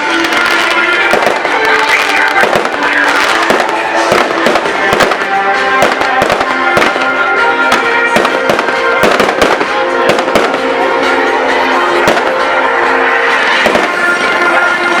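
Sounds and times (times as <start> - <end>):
fireworks bangs and crackles: 0.0 - 15.0
music with long held notes: 0.0 - 15.0.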